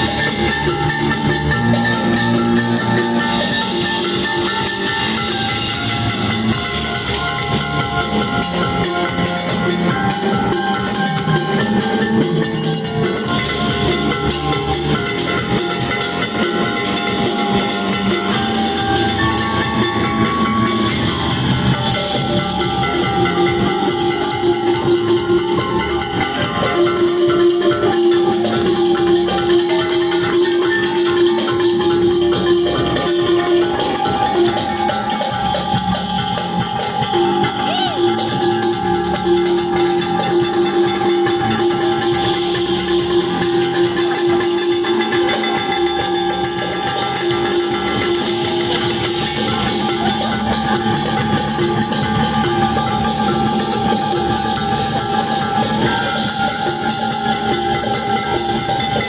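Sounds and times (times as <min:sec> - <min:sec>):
drum and cymbal beat: 0:00.0 - 0:59.0
percussion shimmer: 0:00.0 - 0:59.0
rock band playing live: 0:00.0 - 0:59.0.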